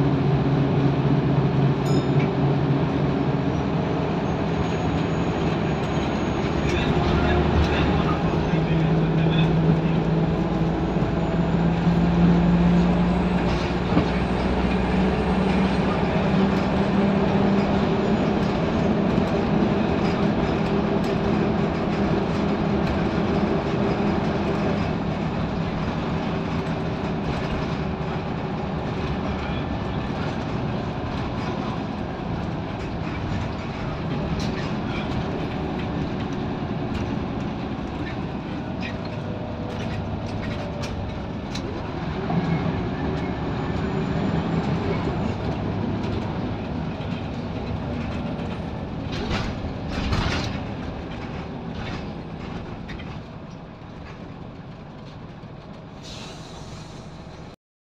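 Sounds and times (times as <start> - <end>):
diesel bus engine droning: 0.0 - 57.6
road and running noise: 0.0 - 57.6.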